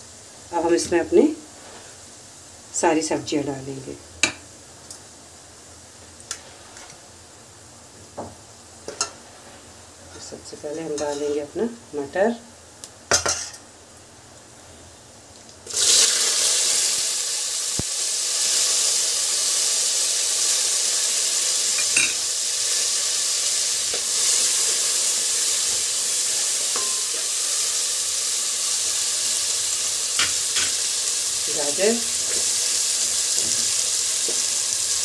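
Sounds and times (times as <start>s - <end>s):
peas sizzling in hot oil: 0.0s - 35.0s.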